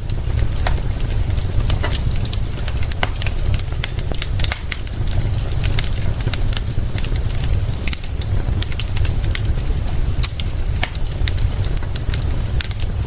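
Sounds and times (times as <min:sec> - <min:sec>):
rain hissing: 0:00.0 - 0:13.0
wood fire crackling: 0:00.0 - 0:13.0.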